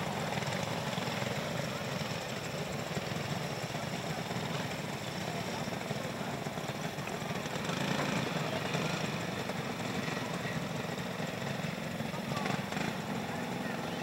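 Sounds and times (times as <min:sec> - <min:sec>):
go-kart engines buzzing: 0:00.0 - 0:14.0.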